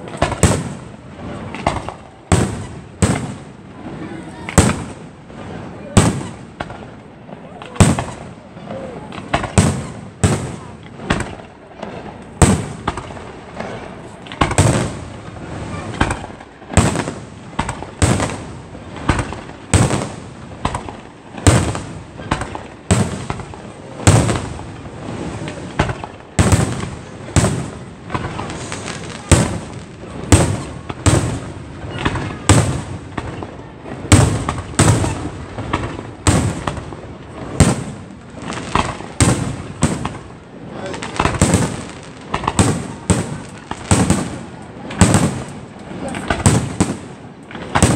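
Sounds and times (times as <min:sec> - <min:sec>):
fireworks bursting with echo: 0:00.0 - 0:47.9.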